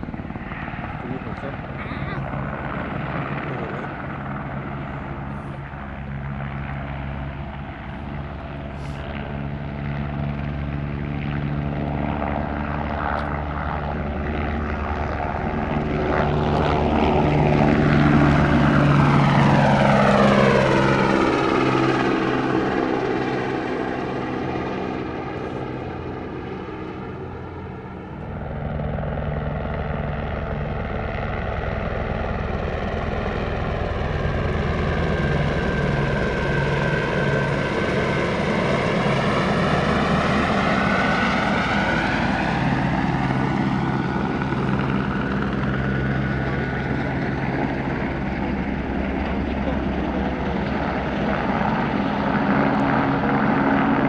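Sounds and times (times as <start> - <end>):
helicopter flying past: 0.0 - 54.0.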